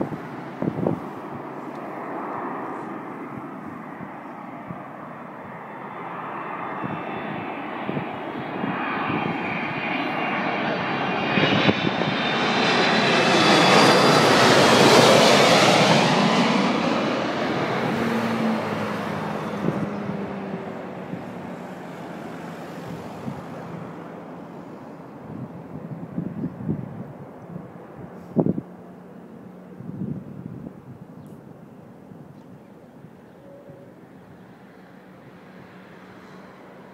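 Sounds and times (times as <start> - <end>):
jet airliner passing overhead: 0.0 - 36.9.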